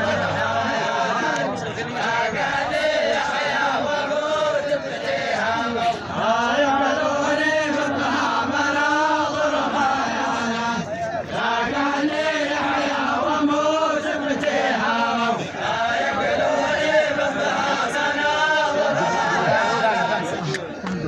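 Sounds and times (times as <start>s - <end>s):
men chanting a folk song: 0.0s - 21.0s.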